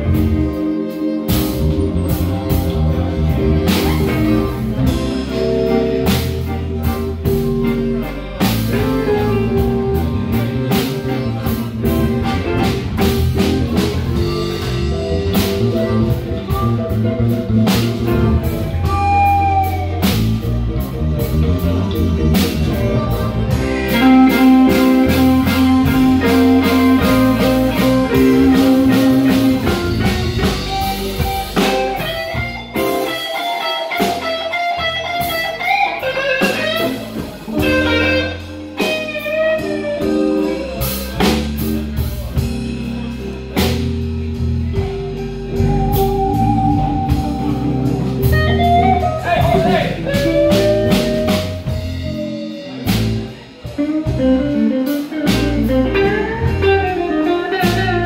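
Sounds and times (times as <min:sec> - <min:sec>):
bass: 0:00.0 - 0:58.0
drums: 0:00.0 - 0:58.0
electric guitar with bent notes: 0:00.0 - 0:58.0.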